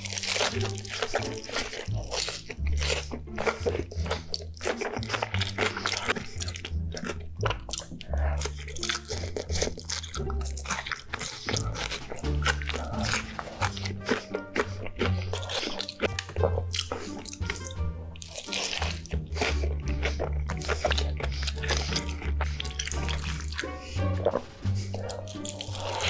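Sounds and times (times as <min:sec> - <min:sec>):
man chewing food: 0:00.0 - 0:26.0.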